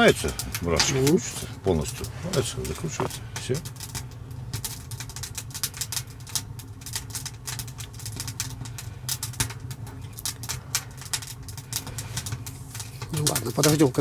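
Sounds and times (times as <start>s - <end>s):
steady low hum: 0.0s - 14.0s
wood fire crackling: 0.0s - 14.0s.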